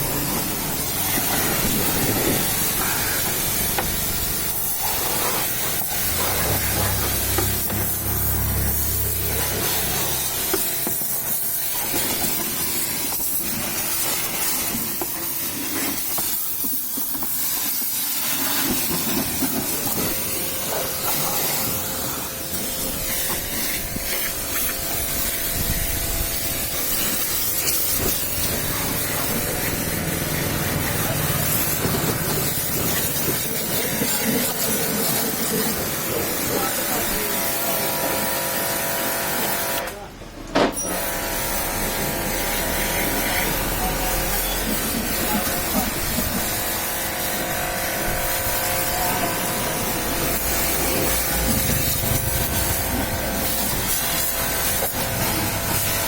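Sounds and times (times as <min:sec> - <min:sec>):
water spraying hiss: 0:00.0 - 0:39.9, 0:40.9 - 0:56.0.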